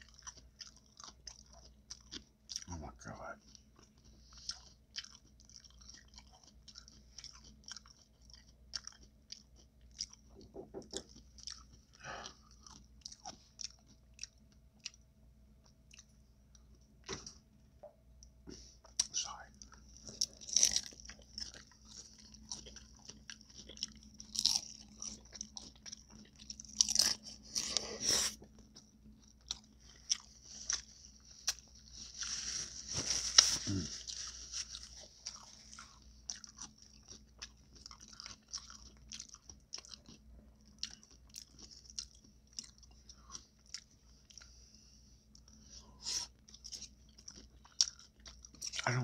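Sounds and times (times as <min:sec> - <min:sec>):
crunchy chewing: 0:00.0 - 0:17.2, 0:18.8 - 0:49.0.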